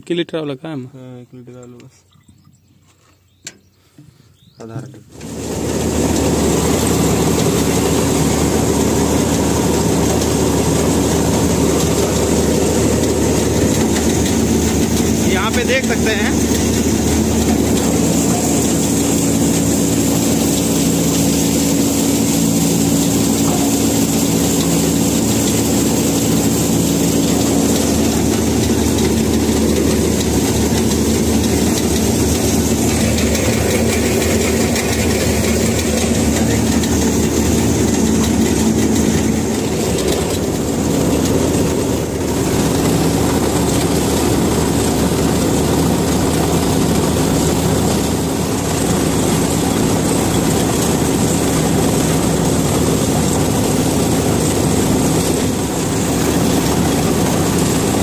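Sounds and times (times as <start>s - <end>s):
combine harvester running: 4.7s - 58.0s.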